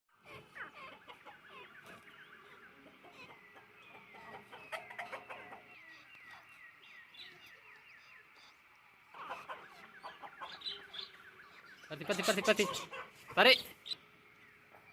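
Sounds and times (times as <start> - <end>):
chickens clucking and peeping: 0.1 - 14.9.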